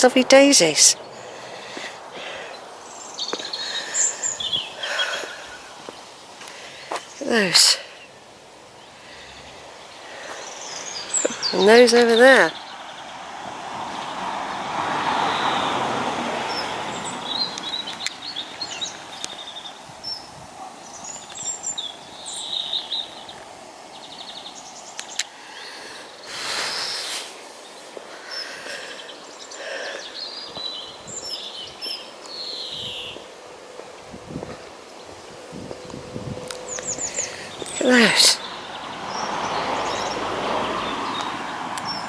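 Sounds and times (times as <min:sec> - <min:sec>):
broad rushing noise: 0:00.0 - 0:42.0
faint outdoor background: 0:00.0 - 0:42.0
songbirds chirping: 0:00.0 - 0:42.0.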